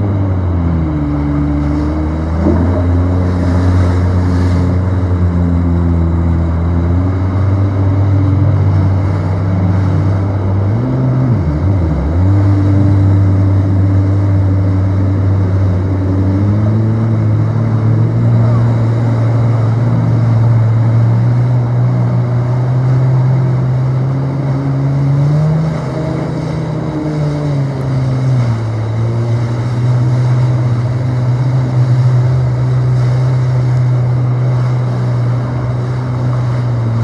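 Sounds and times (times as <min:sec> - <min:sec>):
jet ski engine running: 0:00.0 - 0:37.0.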